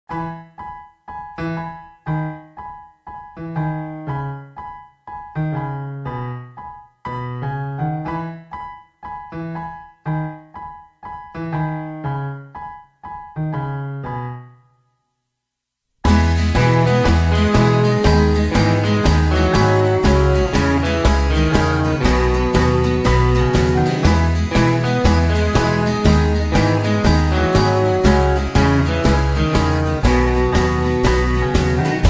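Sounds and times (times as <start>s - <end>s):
piano music: 0.1s - 14.8s, 16.0s - 32.0s.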